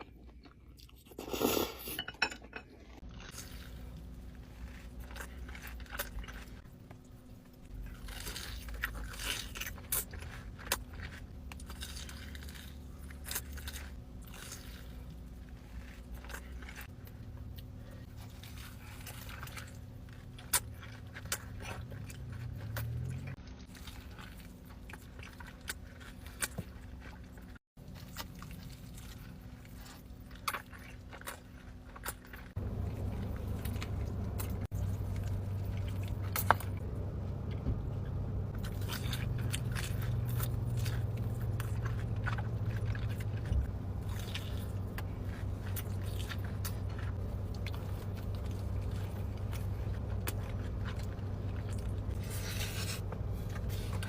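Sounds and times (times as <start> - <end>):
steady low hum: 0.0 - 54.0
crunchy bites and chewing: 2.7 - 54.0.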